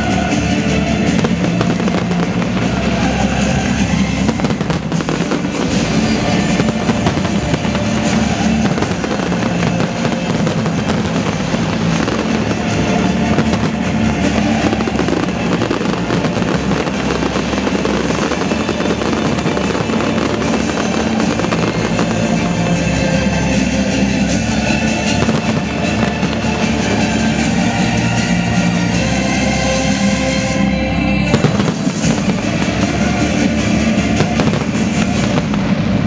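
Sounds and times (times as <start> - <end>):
firework shells bursting and crackling: 0.0 - 30.6, 31.2 - 36.0
fountain fireworks firing: 0.0 - 36.0
music playing: 0.0 - 36.0.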